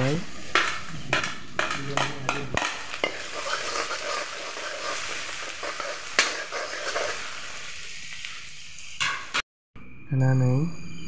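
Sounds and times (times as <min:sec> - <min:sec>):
onion sizzling in oil: 0:00.0 - 0:09.4.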